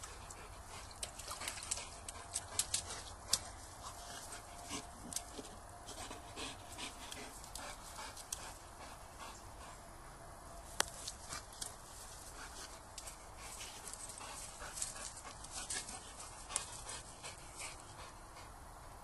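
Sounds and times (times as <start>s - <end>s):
dog panting: 0.0s - 9.9s, 11.1s - 18.6s.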